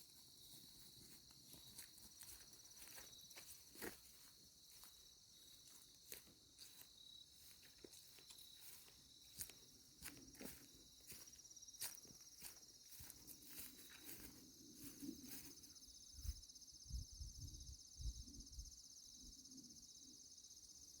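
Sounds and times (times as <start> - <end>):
insect chorus trilling: 0.0 - 21.0.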